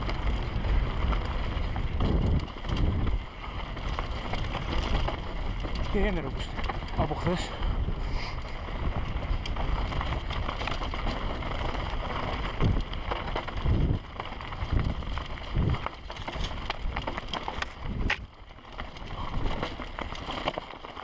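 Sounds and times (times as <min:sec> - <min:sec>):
bike rattles and clicks: 0:00.0 - 0:21.0
wind and trail rumble: 0:00.0 - 0:21.0.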